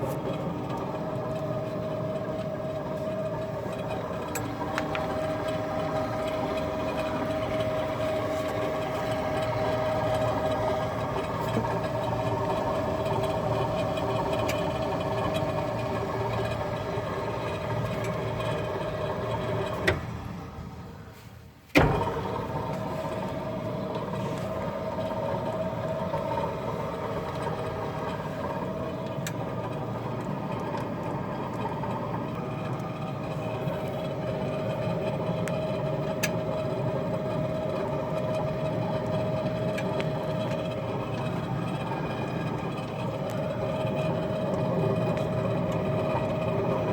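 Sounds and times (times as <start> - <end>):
washing machine humming: 0.0 - 46.9.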